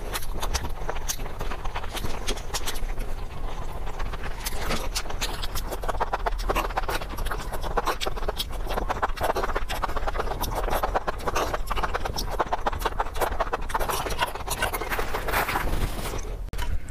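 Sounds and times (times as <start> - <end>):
chewing and lip smacking: 0.0 - 16.9
slurping: 0.0 - 16.9.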